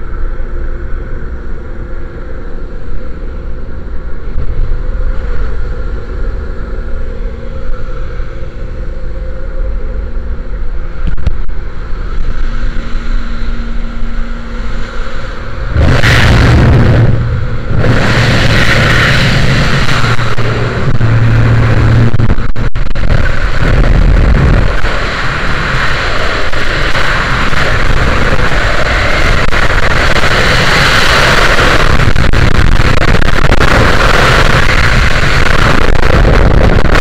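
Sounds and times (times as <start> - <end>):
plane engine and propeller droning: 0.0 - 37.0
wind buffeting microphone: 0.0 - 37.0.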